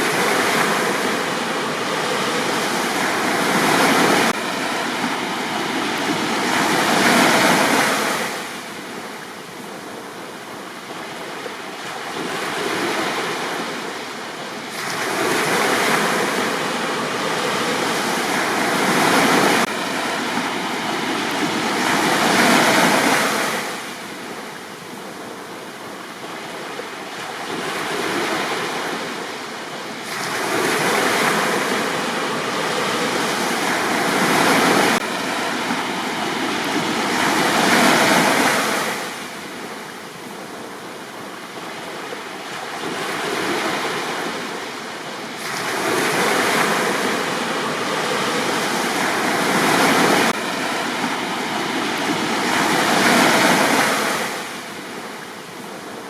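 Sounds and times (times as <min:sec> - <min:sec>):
sea waves breaking on a beach: 0:00.0 - 0:56.0.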